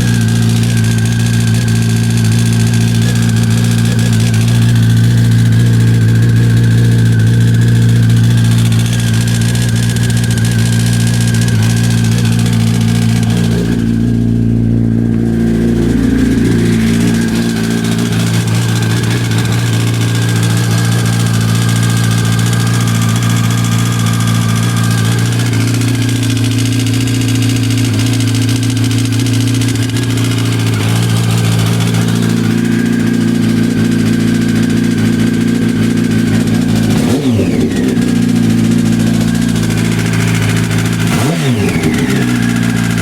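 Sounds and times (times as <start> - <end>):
engine rattle or knock: 0.0 - 43.0
motorcycle engine idling: 0.0 - 43.0.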